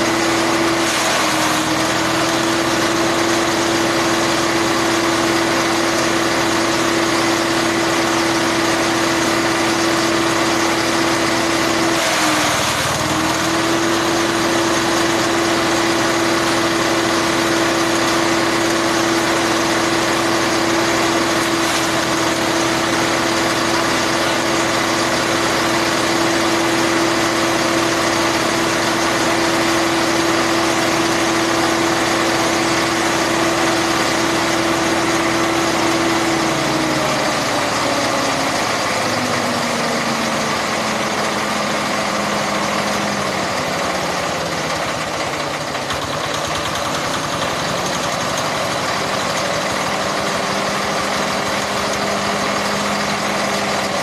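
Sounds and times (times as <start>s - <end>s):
grass chopper whining: 0.0s - 54.0s.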